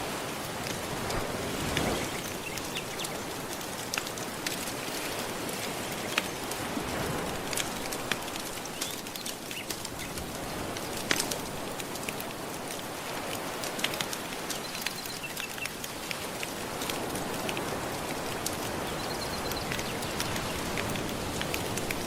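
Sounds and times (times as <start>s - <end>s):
sea waves washing on shore: 0.0s - 22.0s
wood fire crackling: 0.1s - 22.0s.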